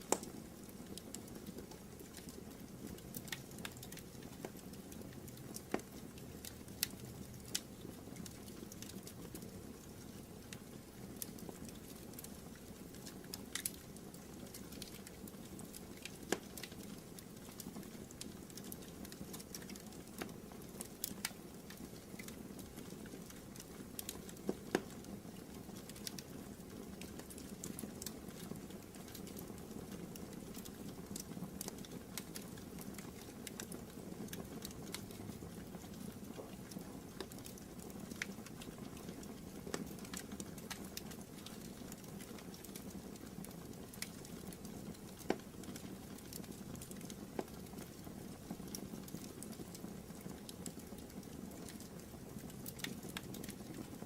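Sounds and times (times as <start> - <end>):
fire crackling in fireplace: 0.0 - 54.0.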